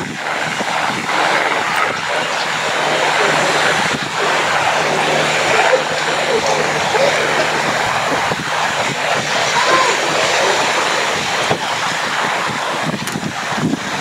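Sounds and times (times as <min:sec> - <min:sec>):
steam locomotive running: 0:00.0 - 0:14.0
wind buffeting microphone: 0:00.0 - 0:14.0.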